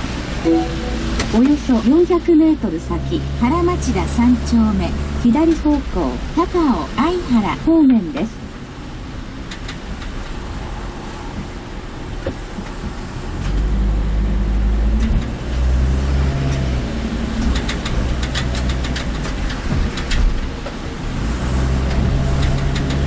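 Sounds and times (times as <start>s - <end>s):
car engine: 0.0s - 23.0s
road noise: 0.0s - 23.0s.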